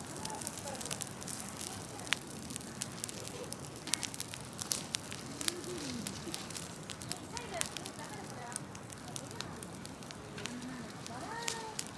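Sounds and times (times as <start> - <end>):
bonfire crackling and popping: 0.0 - 11.9
rush of flame: 0.0 - 11.9.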